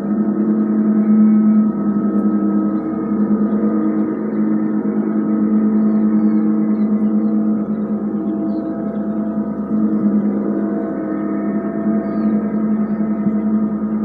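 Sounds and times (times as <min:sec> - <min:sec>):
sound bath drone: 0:00.0 - 0:14.0.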